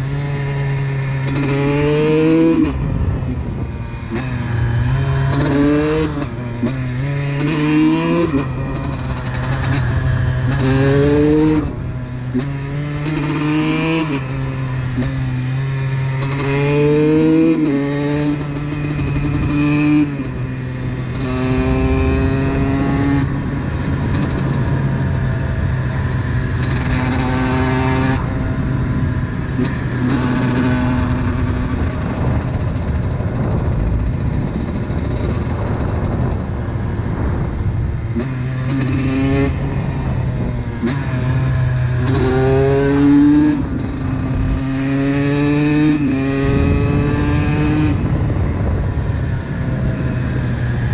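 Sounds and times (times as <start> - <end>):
two-stroke engine revving: 0.0 - 36.5, 40.8 - 50.8.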